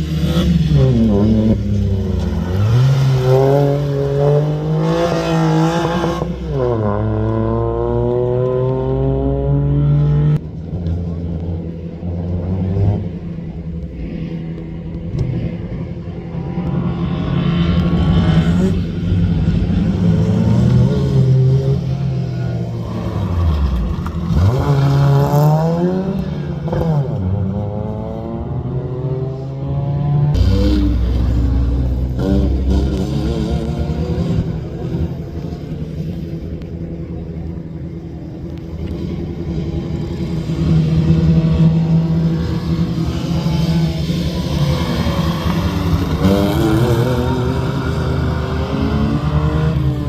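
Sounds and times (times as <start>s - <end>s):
rally car engine accelerating: 0.0s - 50.0s.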